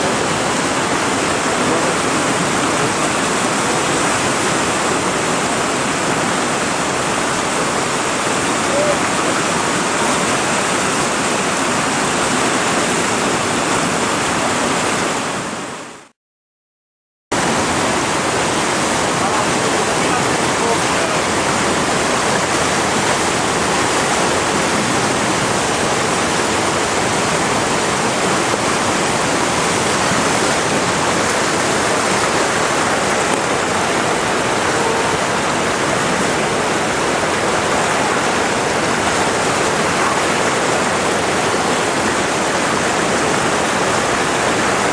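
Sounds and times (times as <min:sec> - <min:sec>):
fast-flowing water rushing: 0:00.0 - 0:16.1, 0:17.3 - 0:44.9.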